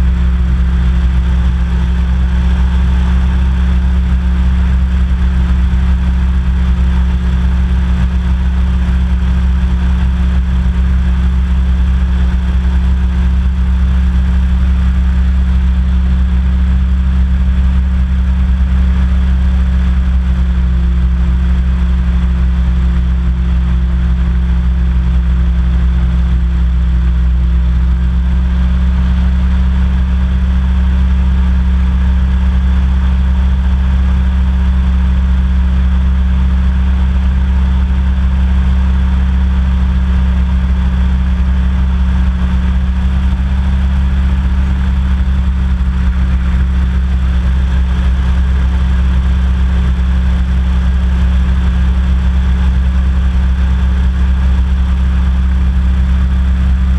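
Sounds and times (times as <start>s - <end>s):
hovercraft engine drone: 0.0s - 56.9s.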